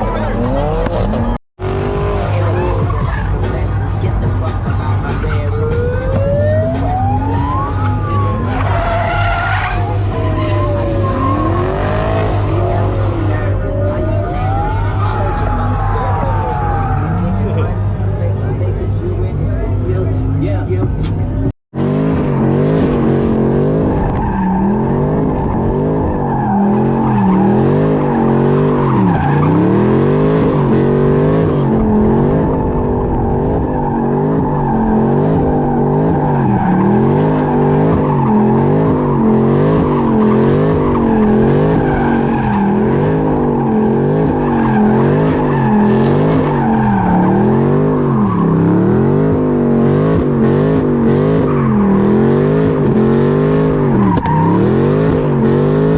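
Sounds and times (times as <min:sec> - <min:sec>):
car engine revving: 0:00.0 - 0:55.9
tires squealing and skidding: 0:00.0 - 0:55.9.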